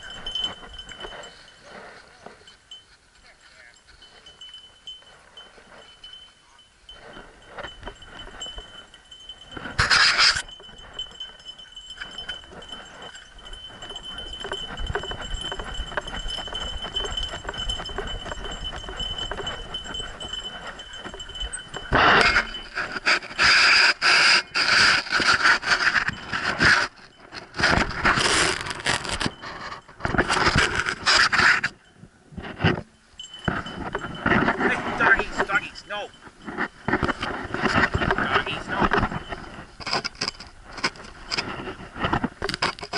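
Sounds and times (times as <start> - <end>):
dog collar jingling: 0.0 - 31.9, 32.8 - 42.3.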